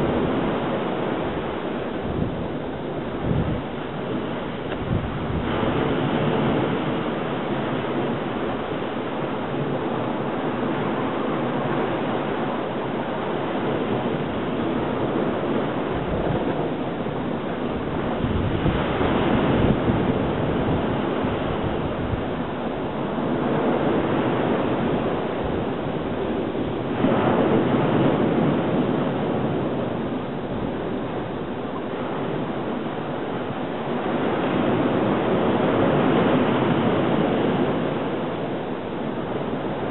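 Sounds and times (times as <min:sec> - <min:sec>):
surf washing on rocky shore: 0:00.0 - 0:39.9
wind noise on microphone: 0:00.0 - 0:39.9.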